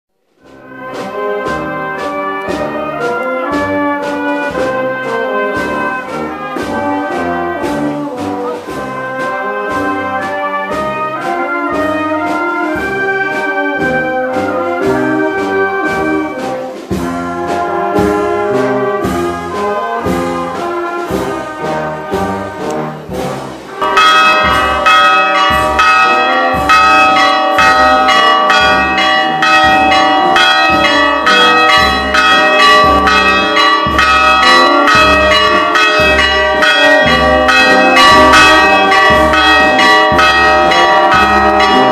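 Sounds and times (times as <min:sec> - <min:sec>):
brass band playing a march: 0:00.3 - 0:41.9
regular drum beat: 0:00.4 - 0:41.9.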